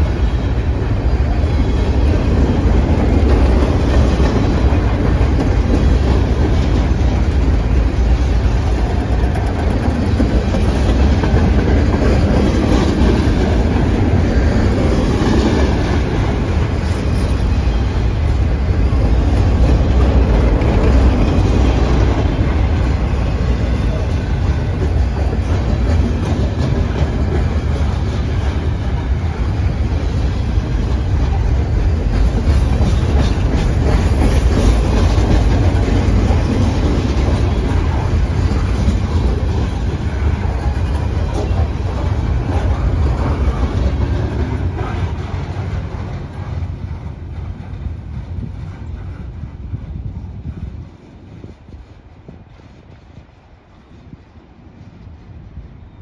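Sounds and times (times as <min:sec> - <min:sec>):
train wheels rolling on track: 0:00.0 - 0:56.0.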